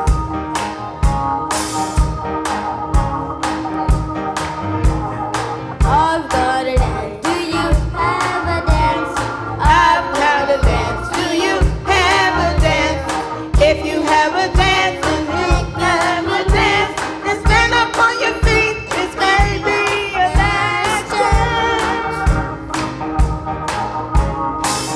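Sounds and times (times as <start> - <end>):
bass: 0.0 - 24.9
drums beating: 0.0 - 24.9
gospel choir singing: 1.5 - 23.0.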